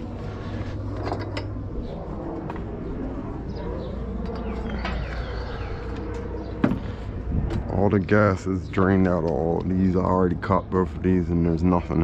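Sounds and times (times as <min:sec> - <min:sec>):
low hum: 0:00.0 - 0:12.0
birds chirping: 0:01.6 - 0:12.0.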